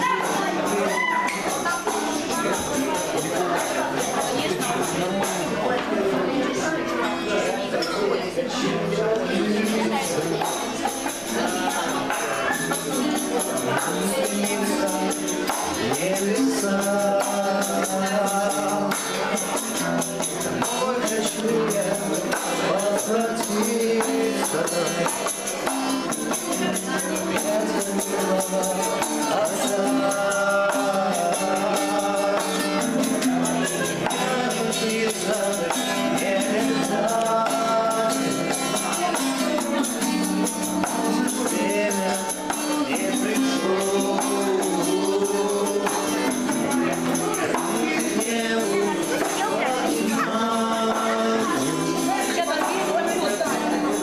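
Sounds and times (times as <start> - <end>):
rapid high percussion: 0.0 - 6.0, 8.8 - 54.0.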